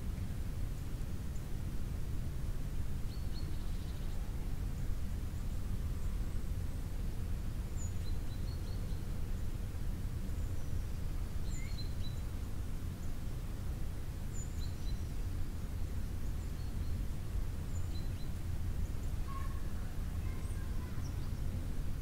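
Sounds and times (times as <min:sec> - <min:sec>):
songbirds chirping: 0:03.0 - 0:13.4, 0:14.0 - 0:22.0.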